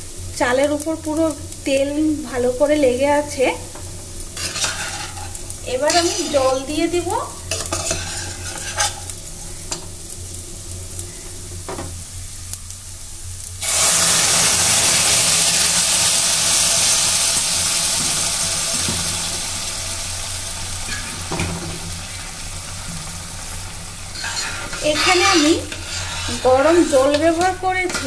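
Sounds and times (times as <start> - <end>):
water sizzling in hot pot: 0.0 - 28.0.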